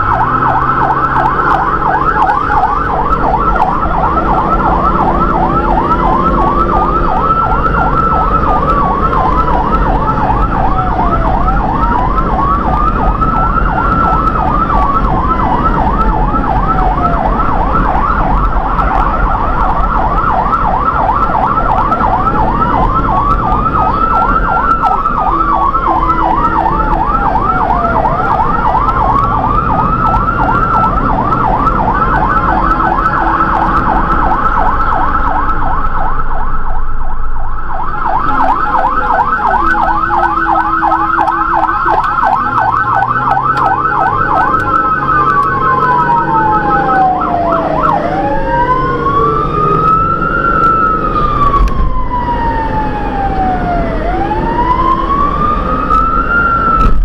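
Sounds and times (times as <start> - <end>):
emergency siren yelp and wail: 0.0 - 57.0
engine and road noise: 0.0 - 57.0.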